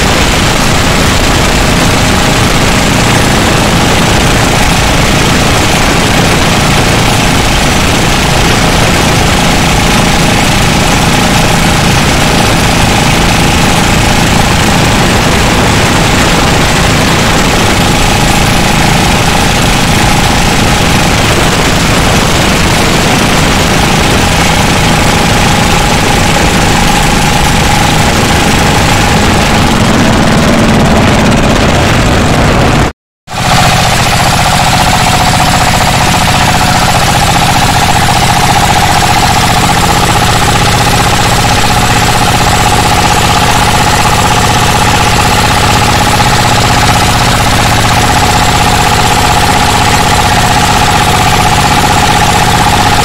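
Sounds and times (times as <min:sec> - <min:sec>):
diesel boat engine clattering drone: 0:00.0 - 0:53.0.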